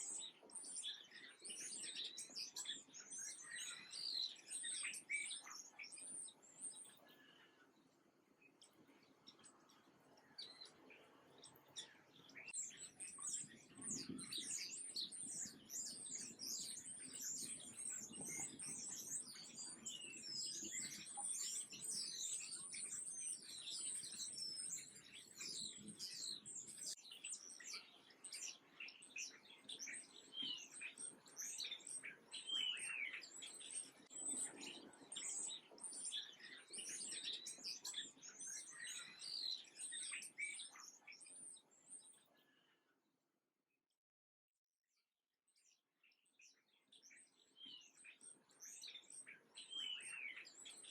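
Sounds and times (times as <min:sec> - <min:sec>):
small birds twittering: 0:00.0 - 0:42.9, 0:45.5 - 0:50.9.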